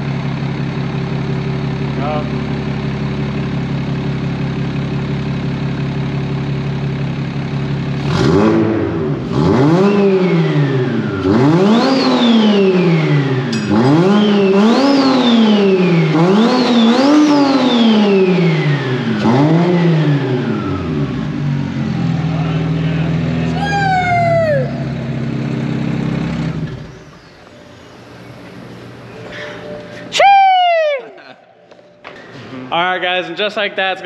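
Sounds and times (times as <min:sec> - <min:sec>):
car engine idling and revving: 0:00.0 - 0:30.1.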